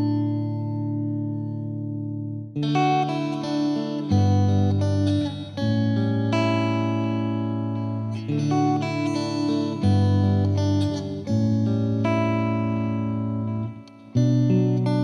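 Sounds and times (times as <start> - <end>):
plucked-string chords: 0.0 - 15.0.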